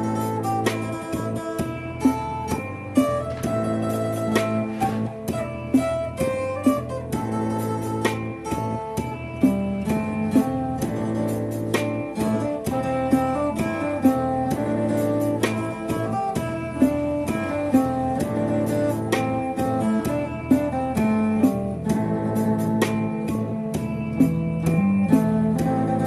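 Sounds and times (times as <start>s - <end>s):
plucked guitar melody: 0.0s - 26.0s.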